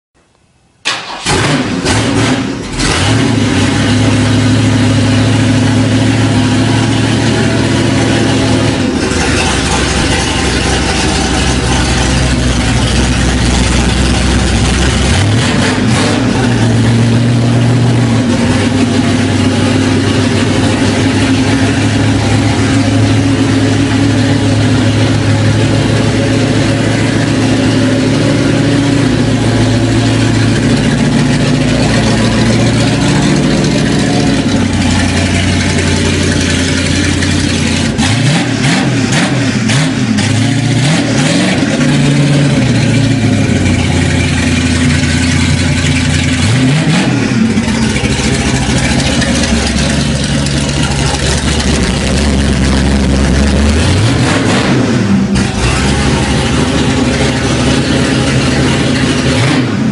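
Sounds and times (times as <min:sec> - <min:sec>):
car engine starting and idling: 0:00.3 - 0:59.9.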